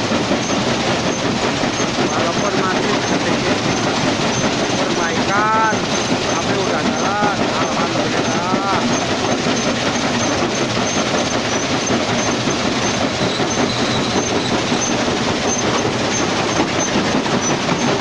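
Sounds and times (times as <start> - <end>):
heavy machinery clattering: 0.0 - 18.0.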